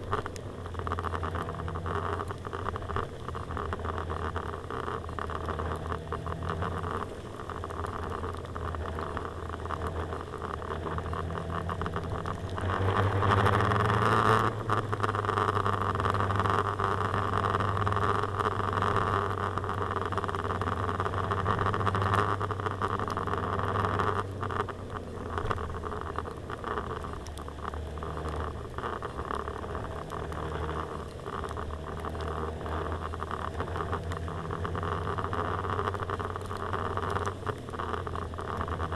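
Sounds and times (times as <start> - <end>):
wet road noise: 0.0 - 38.9.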